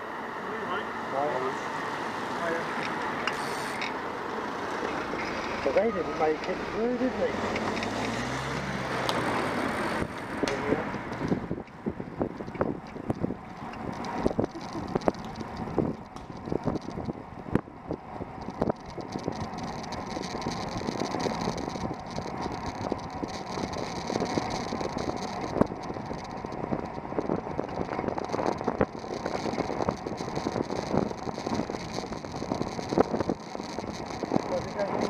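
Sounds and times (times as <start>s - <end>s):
bicycle tyre road noise: 0.0s - 35.0s
wind noise: 4.8s - 35.0s.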